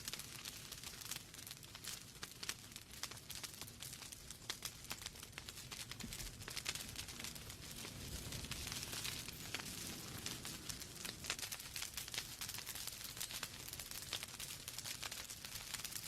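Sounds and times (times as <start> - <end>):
logs crackling and popping: 0.0 - 16.0
low rumble of flame: 0.0 - 16.0.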